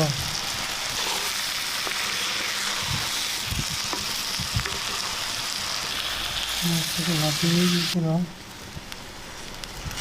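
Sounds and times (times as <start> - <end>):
curry sizzling in hot oil: 0.0 - 10.0.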